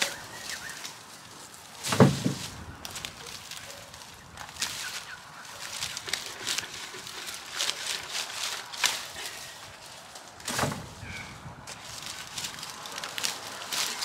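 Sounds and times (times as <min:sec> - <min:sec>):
shrub stems rustling and snapping: 0:00.0 - 0:14.0.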